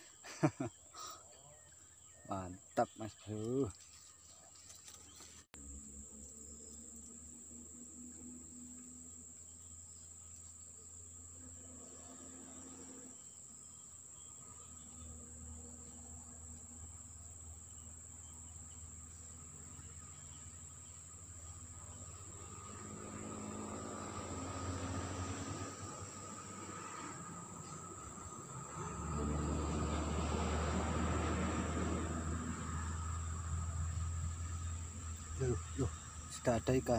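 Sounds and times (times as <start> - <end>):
insects chirring: 0.0 - 36.9.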